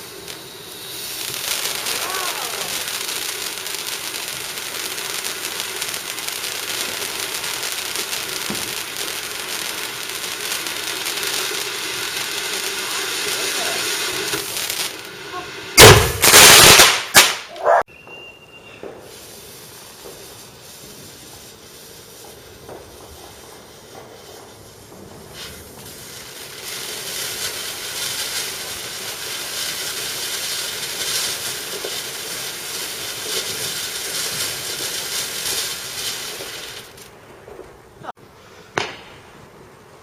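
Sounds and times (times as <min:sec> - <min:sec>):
fireworks bangs and bursts: 0:00.0 - 0:39.9.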